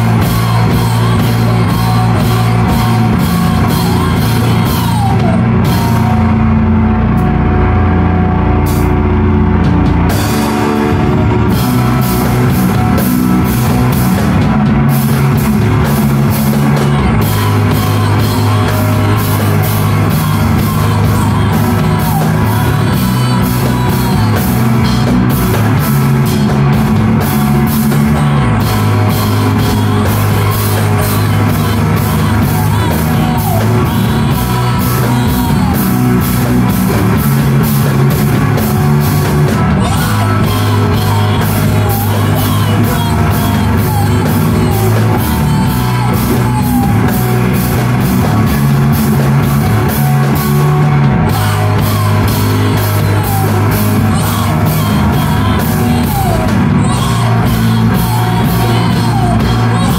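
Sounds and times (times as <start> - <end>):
drum kit beat: 0.0 - 59.9
rock band playing live: 0.0 - 59.9.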